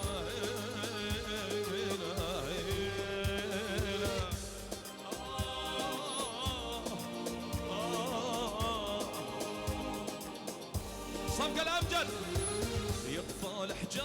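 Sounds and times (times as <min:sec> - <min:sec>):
steady drum beat: 0:00.0 - 0:14.0.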